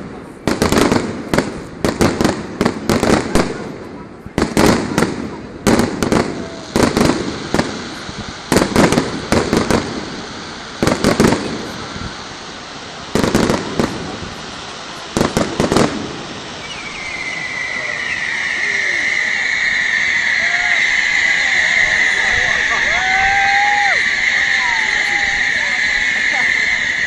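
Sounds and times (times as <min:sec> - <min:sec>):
fireworks bursts and bangs: 0:00.0 - 0:27.0
steady high hiss: 0:00.0 - 0:27.0.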